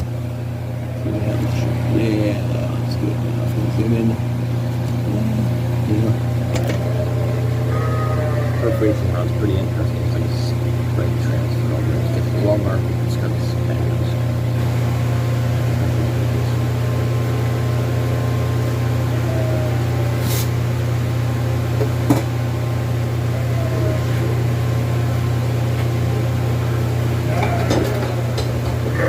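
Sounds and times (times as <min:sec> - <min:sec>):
welding machine humming: 0:00.0 - 0:11.2, 0:11.8 - 0:29.0.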